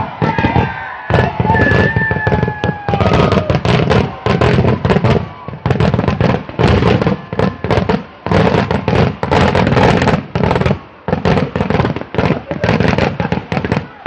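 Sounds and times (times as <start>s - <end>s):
fireworks crackling bangs: 0.0s - 14.0s.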